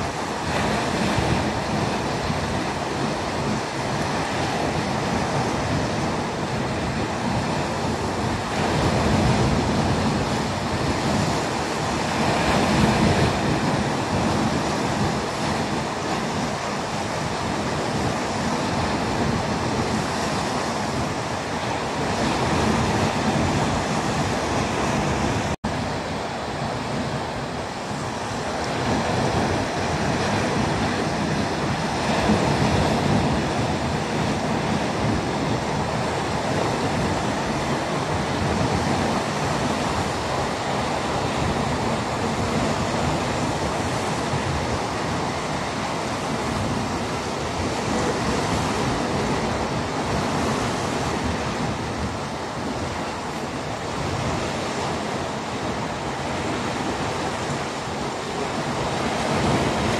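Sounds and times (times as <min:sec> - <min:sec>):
surf hissing: 0:00.0 - 0:59.9
wind on microphone: 0:00.0 - 0:59.9.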